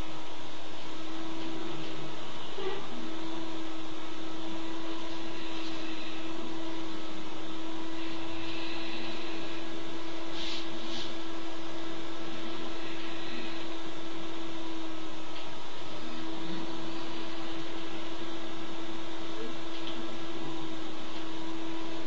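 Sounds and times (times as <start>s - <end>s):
low hum tone: 0.0s - 22.0s
steady hiss: 0.0s - 22.0s.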